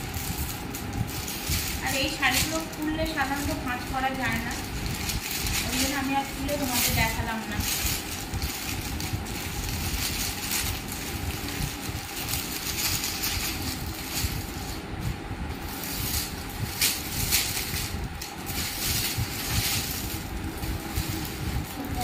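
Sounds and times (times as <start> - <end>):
fabric and packaging crinkling: 0.0 - 22.0.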